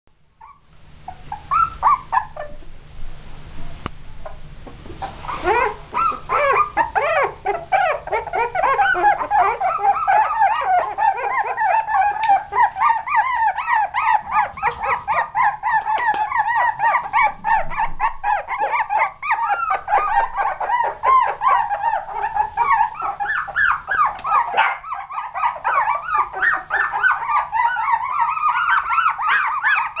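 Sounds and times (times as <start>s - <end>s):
puppies whining and squealing: 0.4s - 2.8s, 5.0s - 30.0s.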